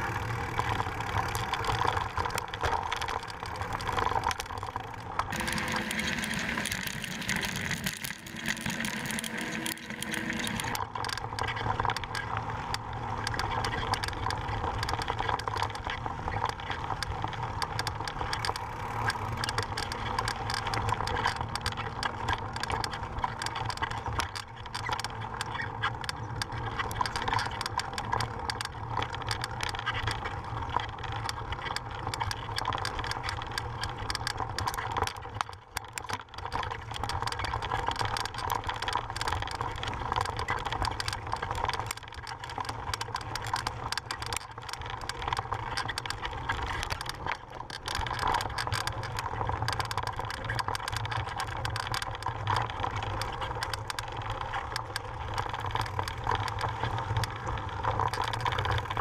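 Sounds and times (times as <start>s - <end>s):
bike and camera rattling: 0.0s - 59.0s
bike tyres crunching on gravel: 0.0s - 59.0s.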